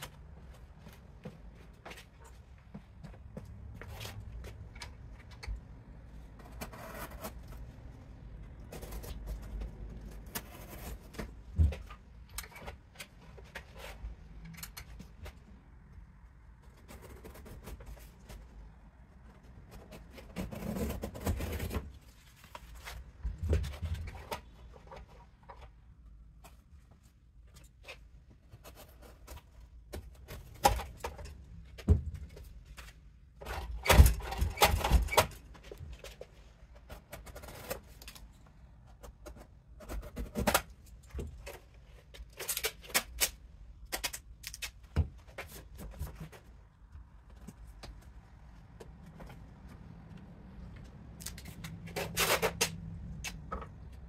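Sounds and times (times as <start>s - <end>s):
cardboard and tape rustling: 3.7s - 15.5s, 16.6s - 53.9s.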